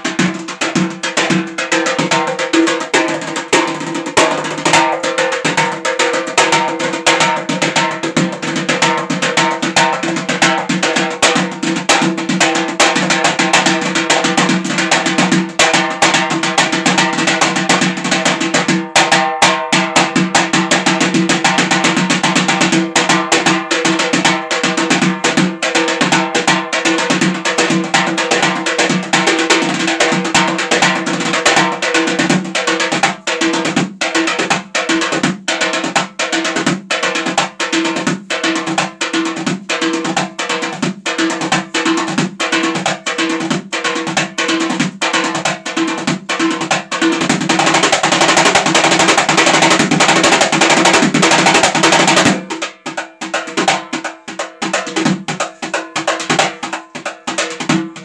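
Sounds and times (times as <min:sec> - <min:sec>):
hand drum played fast: 0:00.0 - 0:58.0.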